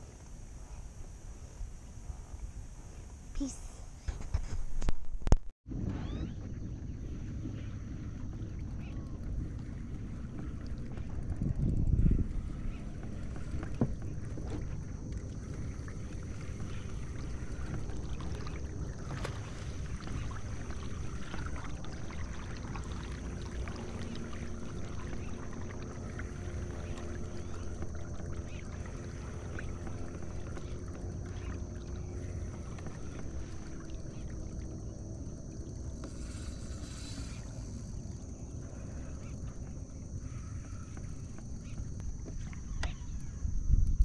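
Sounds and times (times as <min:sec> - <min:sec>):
faint wavering hum: 0:00.0 - 0:44.0
kayak low rumble: 0:00.0 - 0:44.0.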